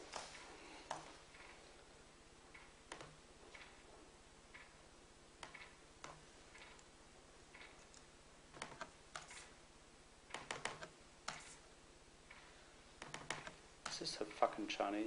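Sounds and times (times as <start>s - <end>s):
faint room hum: 0.0s - 15.0s
faint clicks and taps: 0.1s - 1.6s, 2.4s - 4.8s, 5.4s - 9.5s, 10.3s - 14.6s.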